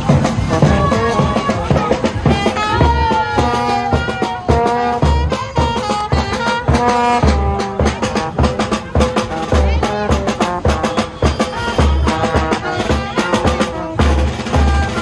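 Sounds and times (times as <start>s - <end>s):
brass horns playing melody: 0.0s - 15.0s
heavy low drum thumps: 0.0s - 15.0s
rattling snare drums: 0.0s - 15.0s.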